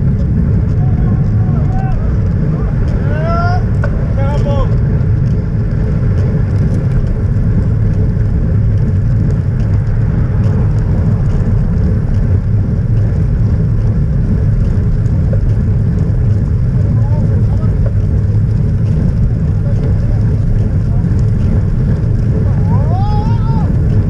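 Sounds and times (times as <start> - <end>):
wind and road roar while cycling: 0.0 - 24.0.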